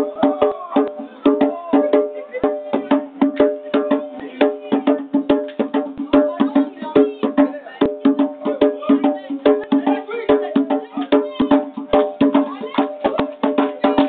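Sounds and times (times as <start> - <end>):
djembe hand drumming: 0.0 - 14.0.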